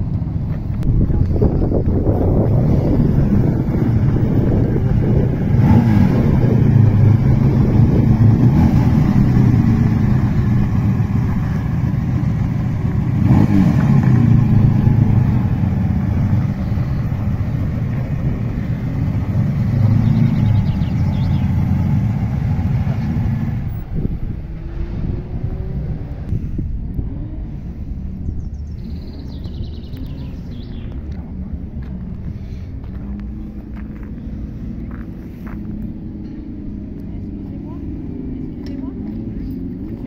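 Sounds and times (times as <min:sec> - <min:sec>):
car engine pulling away: 0:00.0 - 0:40.0.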